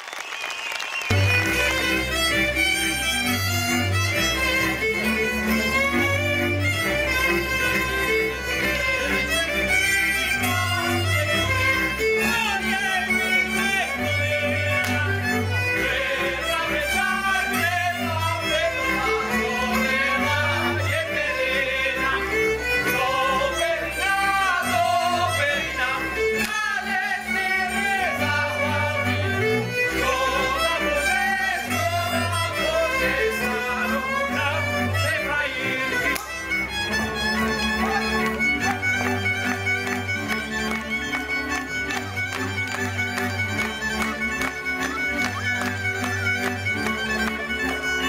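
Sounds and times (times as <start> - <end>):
fiddle folk music: 0.4 - 48.0.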